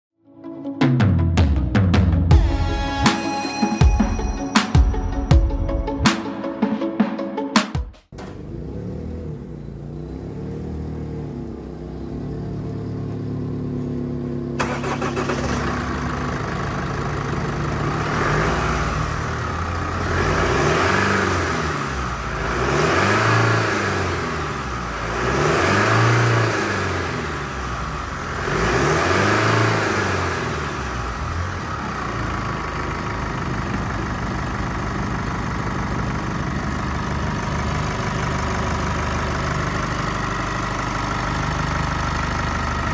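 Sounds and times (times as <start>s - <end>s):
diesel engine revving and idling: 8.1s - 42.9s.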